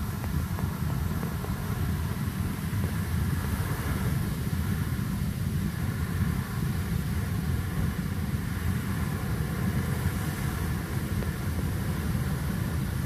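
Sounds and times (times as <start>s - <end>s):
geyser water jet rushing: 0.0s - 13.0s
hiss: 0.0s - 13.0s.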